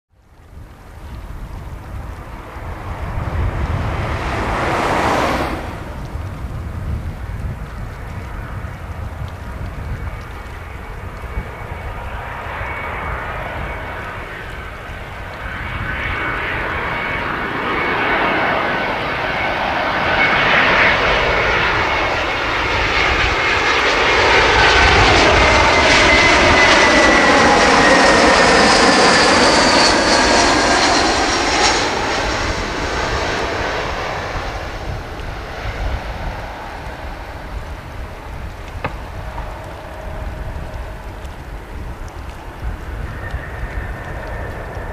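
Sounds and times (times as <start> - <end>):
airliner jet engines passing: 0.2 - 44.9.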